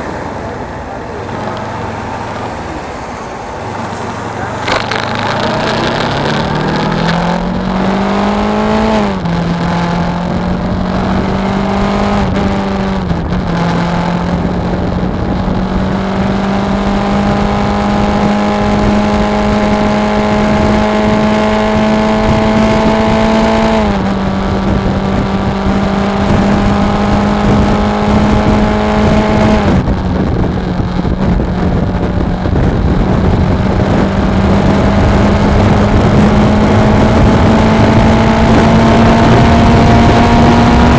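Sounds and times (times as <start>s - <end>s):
wind rush: 0.0s - 40.9s
motorcycle engine running: 3.7s - 40.9s.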